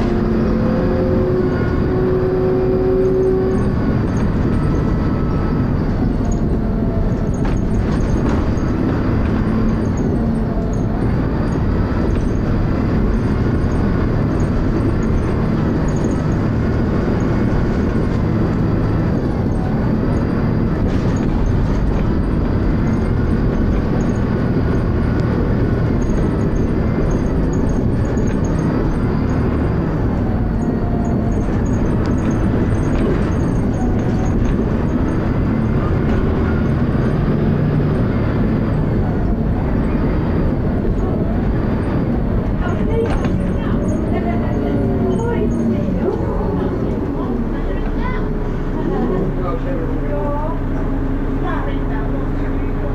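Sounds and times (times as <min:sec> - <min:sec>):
bus engine droning: 0:00.0 - 0:52.9.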